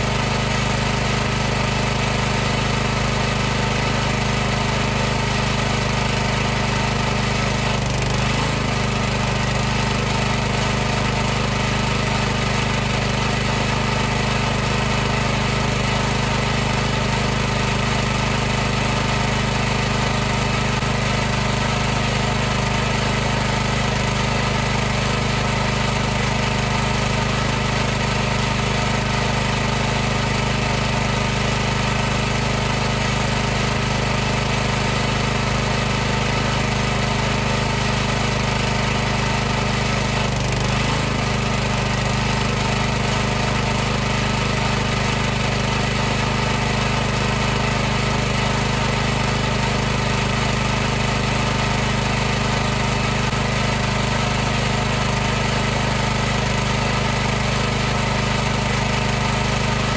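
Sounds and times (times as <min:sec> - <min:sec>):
pressure washer running: 0:00.0 - 0:59.9.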